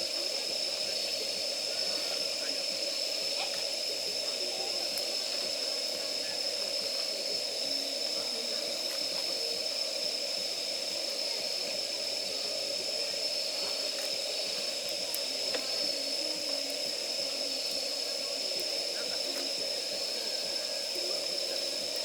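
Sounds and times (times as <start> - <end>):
campfire hissing and crackling: 0.0 - 22.0.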